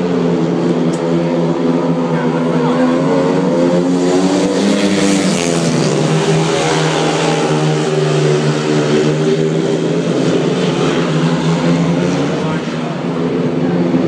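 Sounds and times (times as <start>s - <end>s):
motorcycle engines racing: 0.0s - 14.0s.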